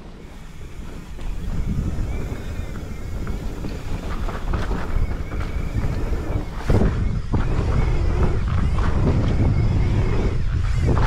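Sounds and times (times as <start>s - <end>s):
bike rattling: 0.0s - 11.0s
bike tyres rumbling on dirt: 0.0s - 11.0s
wind buffeting microphone: 0.0s - 11.0s.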